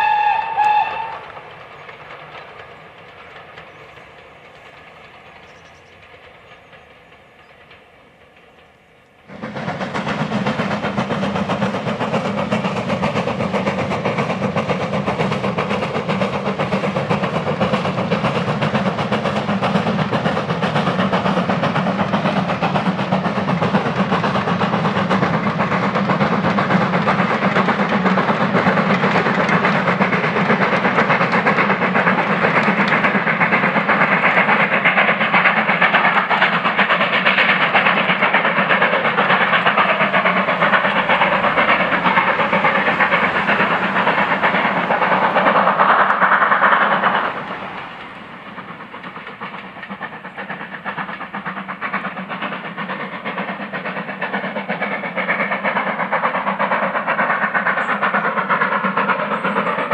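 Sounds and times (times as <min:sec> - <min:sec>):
steam locomotive exhaust beats: 0:00.0 - 0:59.9
train wheels on rails: 0:00.0 - 0:59.9.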